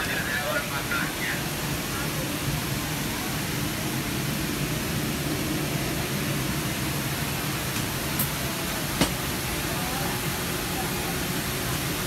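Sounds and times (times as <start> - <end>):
cabin air conditioning rush: 0.0 - 12.0.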